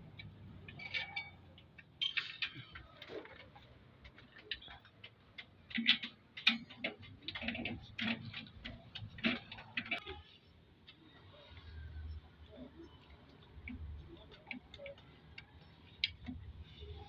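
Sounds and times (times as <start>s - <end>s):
tools and engine parts clicking: 0.0s - 11.1s, 12.8s - 17.0s.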